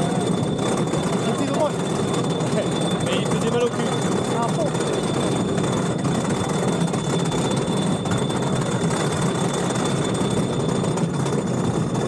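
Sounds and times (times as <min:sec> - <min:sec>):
roller coaster chain lift rattling: 0:00.0 - 0:12.0.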